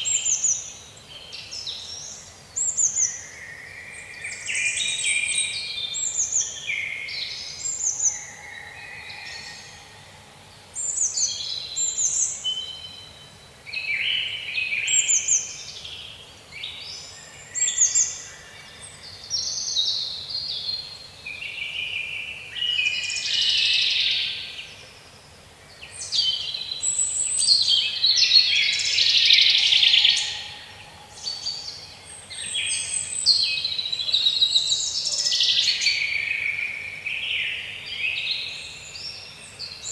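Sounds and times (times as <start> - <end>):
birds singing: 0.0 - 25.0, 25.6 - 39.9.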